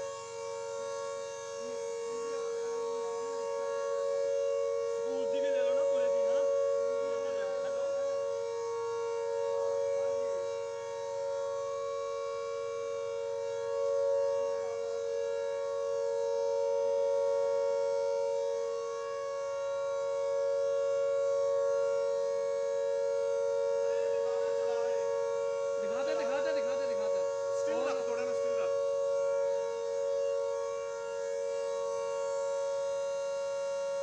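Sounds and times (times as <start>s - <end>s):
air raid siren tone: 0.0s - 34.0s.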